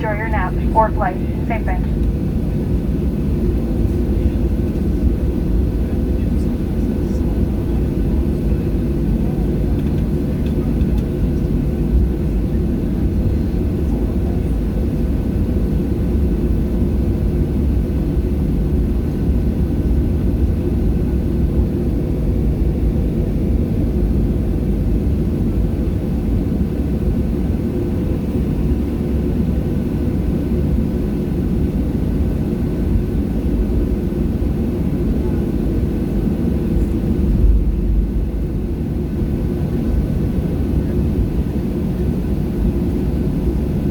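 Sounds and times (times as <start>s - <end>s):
jet engine cabin drone: 0.0s - 43.9s.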